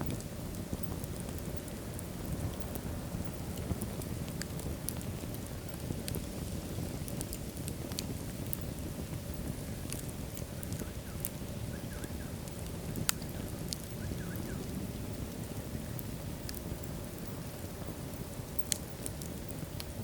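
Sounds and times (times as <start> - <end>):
fire crackling and popping: 0.0 - 20.0
fire flames rumbling: 0.0 - 20.0.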